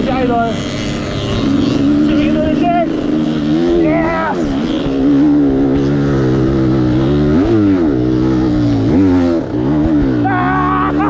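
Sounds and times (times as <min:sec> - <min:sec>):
dirt bike engine under throttle: 0:00.0 - 0:11.0.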